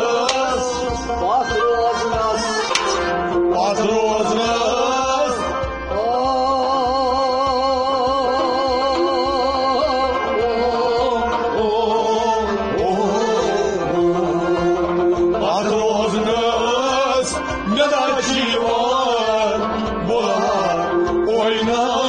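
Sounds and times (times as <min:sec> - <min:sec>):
devotional singing held notes: 0:00.0 - 0:22.0
rhythmic accompaniment: 0:00.0 - 0:22.0.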